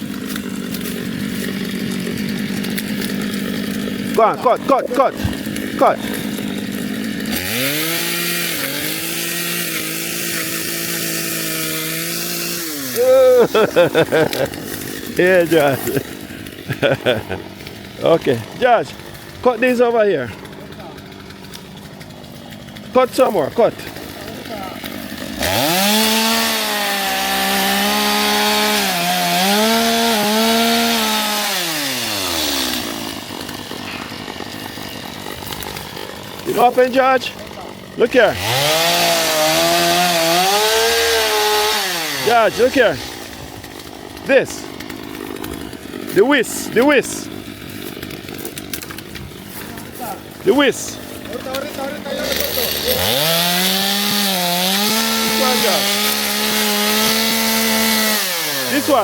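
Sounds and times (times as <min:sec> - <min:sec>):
chainsaw engine revving: 0:00.0 - 0:59.0.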